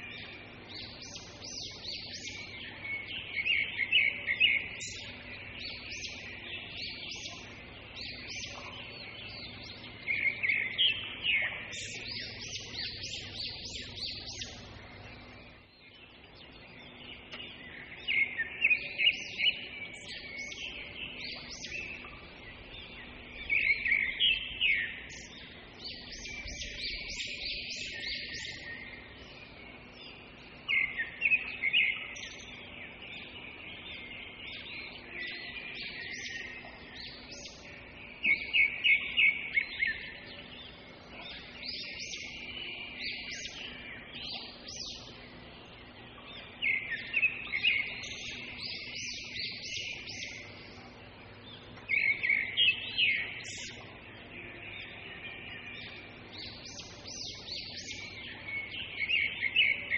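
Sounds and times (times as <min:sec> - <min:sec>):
faint low hum: 0:00.0 - 0:59.9
small birds chirping: 0:00.0 - 0:59.9.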